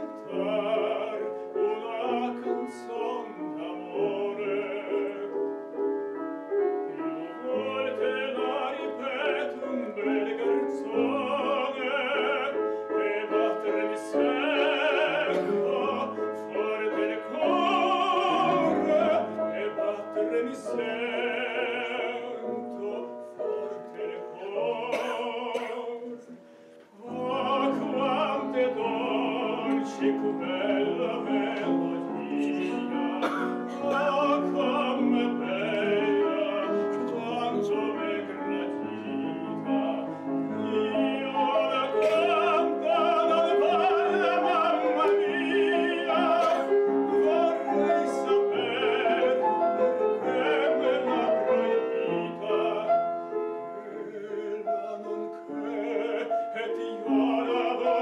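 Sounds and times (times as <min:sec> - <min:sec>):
man singing with vibrato: 0:00.0 - 0:05.5, 0:06.9 - 0:58.0
grand piano: 0:00.0 - 0:58.0.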